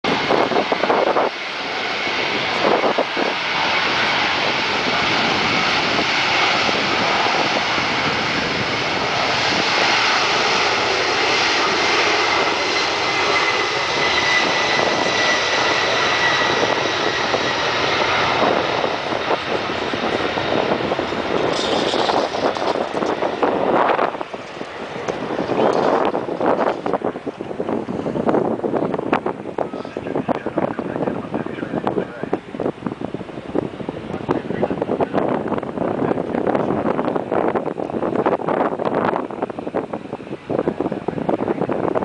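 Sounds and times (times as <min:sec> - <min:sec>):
jet engines at takeoff thrust: 0:00.0 - 0:42.0.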